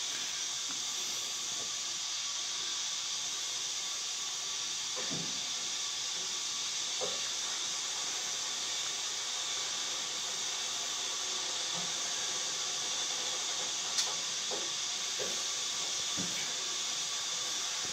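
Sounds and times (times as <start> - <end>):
steady high hiss: 0.0 - 17.9.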